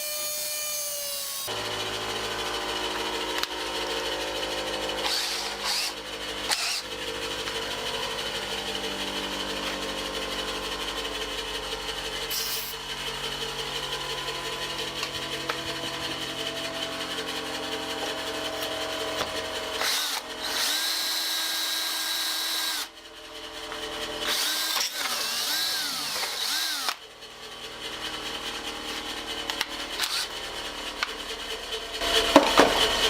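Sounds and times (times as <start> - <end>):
electric drill drilling metal: 0.0 - 11.4, 12.0 - 33.0.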